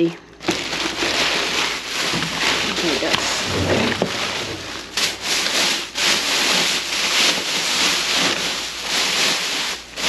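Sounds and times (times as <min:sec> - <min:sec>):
plastic bags rustling and crinkling: 0:00.0 - 0:10.0.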